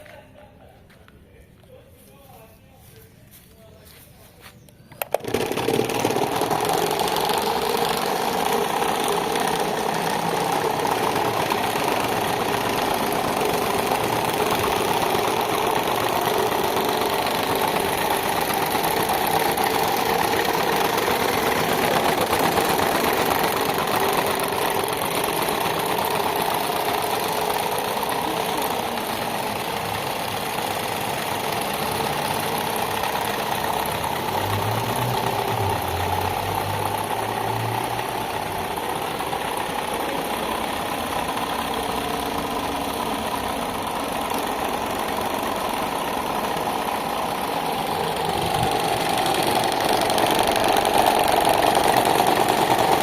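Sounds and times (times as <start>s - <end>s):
electric fan whirring: 0.0s - 53.0s.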